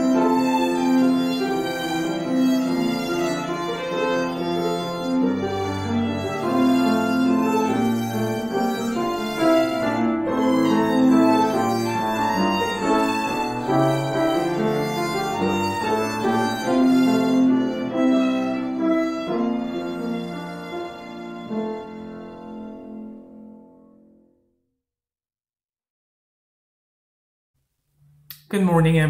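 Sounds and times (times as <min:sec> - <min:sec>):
cello: 0:00.0 - 0:23.3
violin melody: 0:00.0 - 0:23.4
piano: 0:00.0 - 0:24.8.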